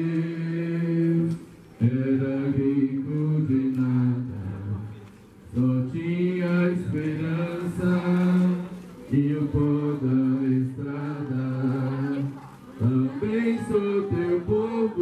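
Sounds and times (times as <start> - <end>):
voices chanting a hymn: 0.0 - 15.0.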